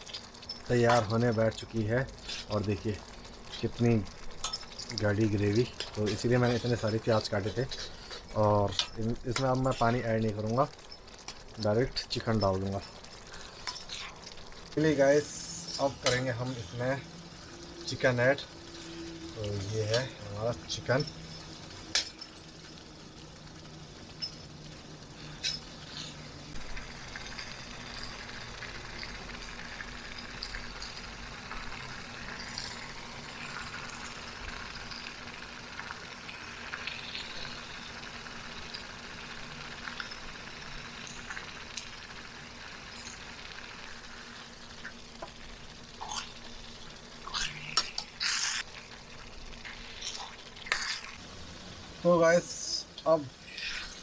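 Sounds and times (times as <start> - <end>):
chicken sizzling in gravy: 0.0 - 54.0.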